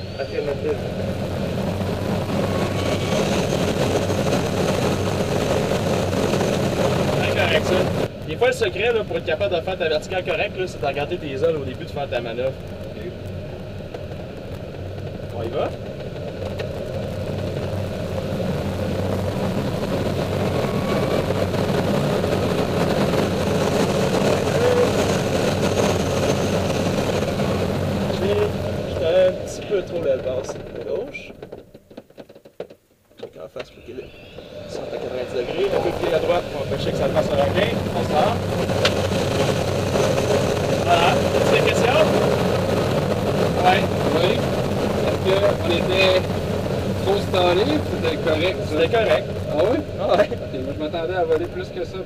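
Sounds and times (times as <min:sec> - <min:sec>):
rushing airflow over glider canopy: 0:00.0 - 0:31.7, 0:34.1 - 0:52.0
low hum: 0:00.0 - 0:31.8, 0:33.4 - 0:52.0.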